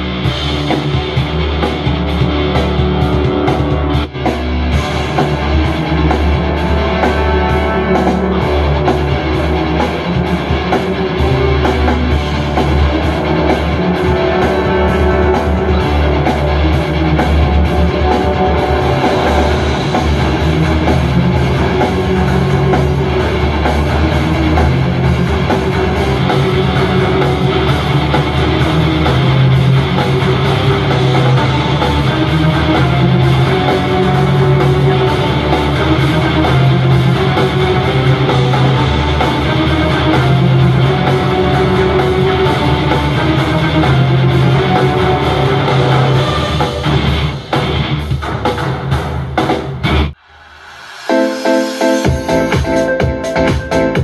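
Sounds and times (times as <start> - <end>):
rock music from a speaker: 0.0 - 50.2, 51.1 - 54.0.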